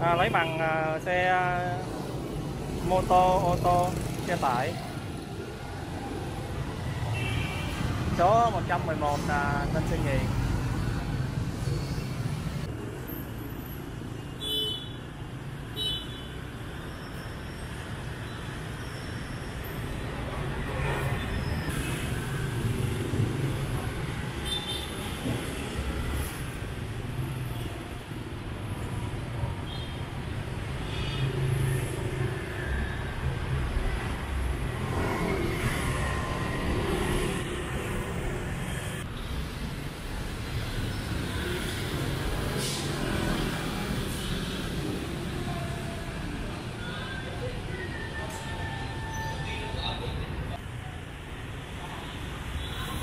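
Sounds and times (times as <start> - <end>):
motorbikes and cars passing: 0.0 - 14.2, 15.2 - 53.0
city street traffic rumble: 0.0 - 53.0.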